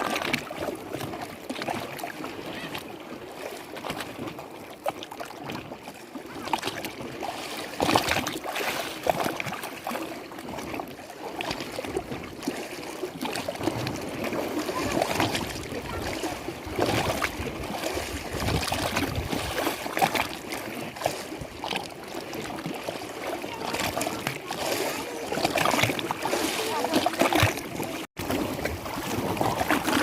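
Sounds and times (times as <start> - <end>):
lake water lapping and splashing: 0.0 - 30.0.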